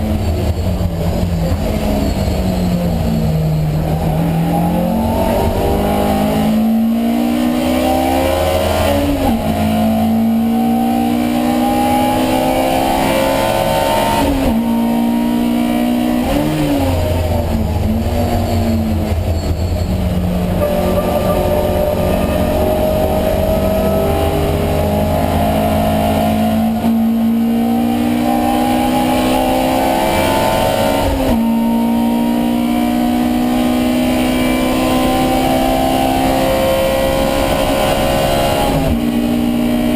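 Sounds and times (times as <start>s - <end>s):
racing engine at full throttle: 0.0s - 39.9s.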